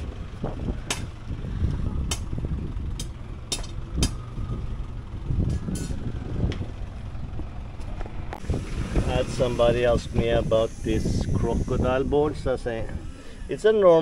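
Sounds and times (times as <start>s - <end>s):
wind on microphone: 0.0s - 3.1s, 3.8s - 7.5s, 8.3s - 13.5s.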